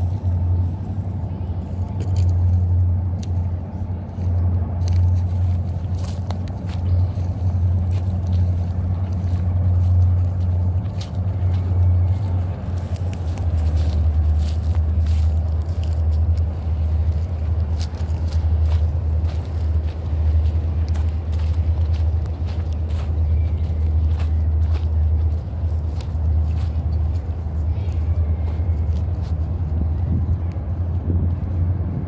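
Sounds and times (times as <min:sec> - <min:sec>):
freight train rumbling on bridge: 0:00.0 - 0:32.0.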